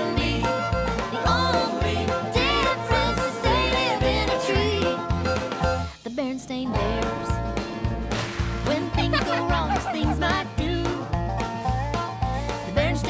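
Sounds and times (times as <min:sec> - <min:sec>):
upbeat cartoon theme music: 0:00.0 - 0:13.0.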